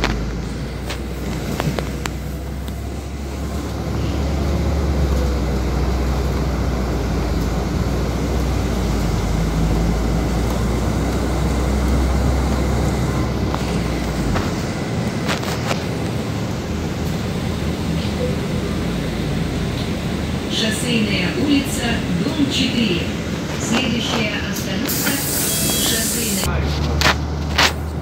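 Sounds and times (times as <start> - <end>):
bus engine and road hum: 0.0 - 28.0.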